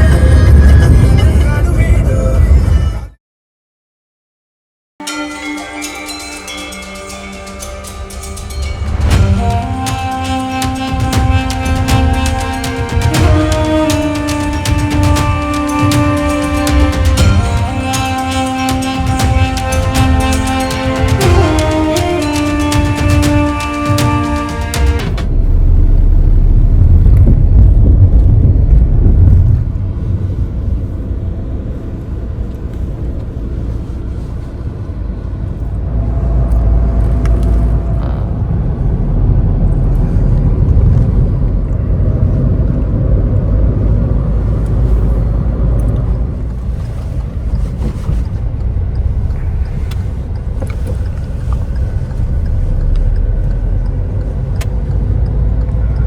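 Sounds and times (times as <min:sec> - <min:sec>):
car engine and road noise: 0:06.3 - 0:56.0.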